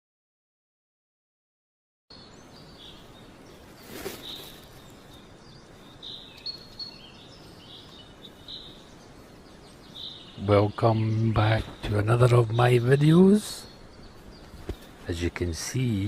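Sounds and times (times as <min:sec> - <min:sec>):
faint outdoor hiss: 0:02.1 - 0:16.0
small birds chirping: 0:02.1 - 0:16.0
rustle: 0:02.2 - 0:16.0.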